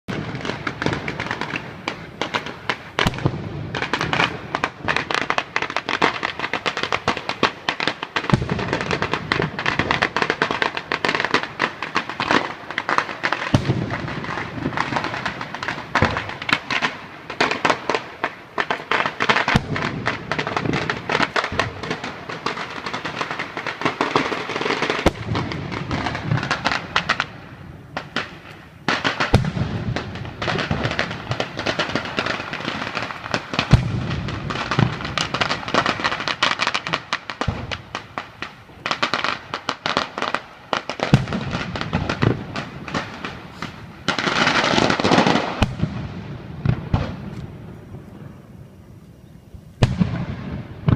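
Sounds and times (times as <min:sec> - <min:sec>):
fireworks cracking and popping: 0:00.1 - 0:50.9
heavy fireworks bangs: 0:00.1 - 0:50.9.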